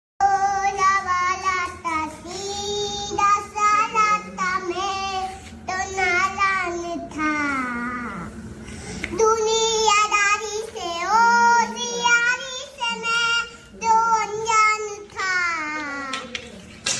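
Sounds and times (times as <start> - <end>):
high child-like voice singing: 0.2 - 8.4, 9.1 - 16.4.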